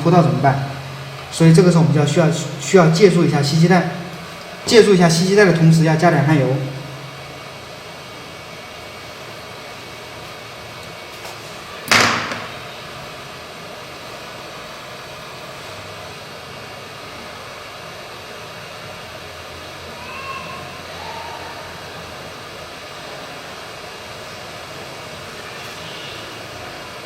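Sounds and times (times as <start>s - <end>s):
hot-air station airflow hiss: 0.0s - 27.0s.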